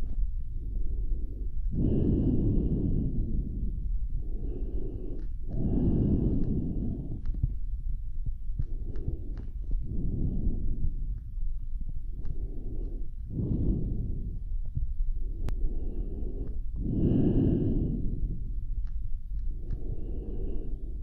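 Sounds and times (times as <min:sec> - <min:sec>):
slow heavy breathing: 0:00.0 - 0:21.0.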